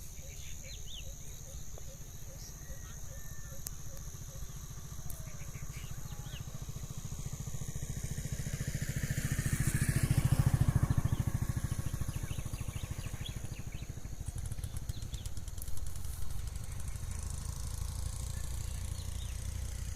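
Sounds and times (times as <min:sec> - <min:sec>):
small engine running: 0:00.0 - 0:19.9.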